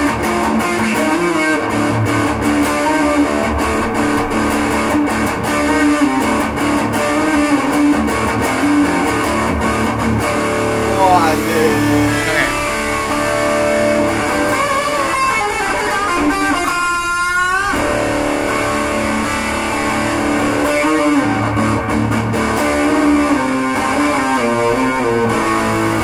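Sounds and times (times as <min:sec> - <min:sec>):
electric guitar playing: 0:00.0 - 0:26.0.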